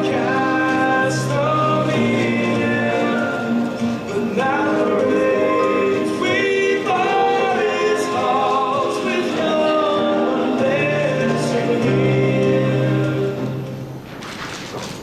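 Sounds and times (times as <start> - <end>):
music with singing voice: 0.0 - 14.0.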